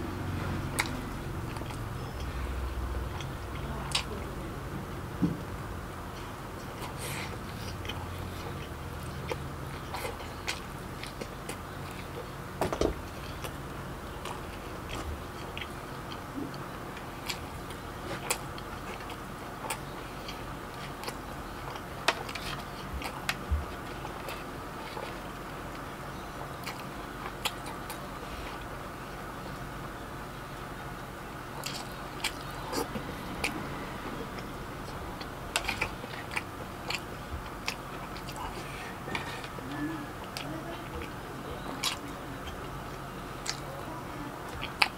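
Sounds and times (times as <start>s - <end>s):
faint background hum: 0.0s - 44.9s
person chewing food: 0.2s - 4.2s, 5.4s - 29.8s, 30.4s - 43.7s, 44.4s - 44.9s.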